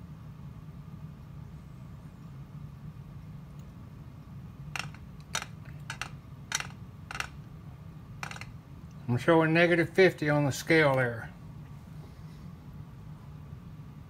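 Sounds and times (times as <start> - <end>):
low equipment hum: 0.0 - 14.0.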